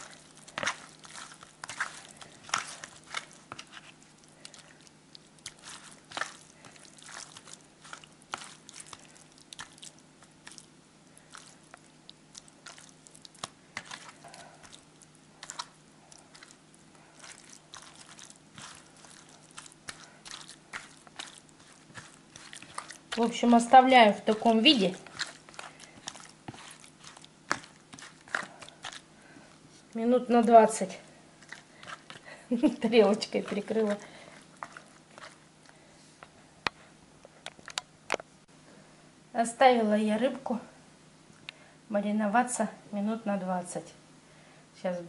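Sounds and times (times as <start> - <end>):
hands squelching sticky fish: 0.0 - 36.8.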